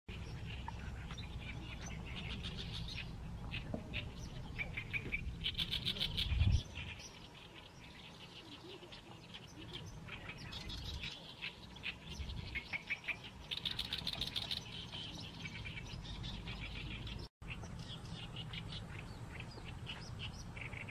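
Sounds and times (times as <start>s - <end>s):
reed warbler singing: 0.1s - 20.9s.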